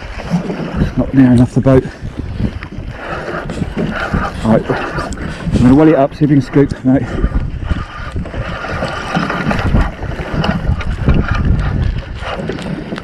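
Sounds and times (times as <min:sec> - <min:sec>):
water lapping against boat: 0:00.0 - 0:13.0
wind buffeting microphone: 0:00.0 - 0:13.0.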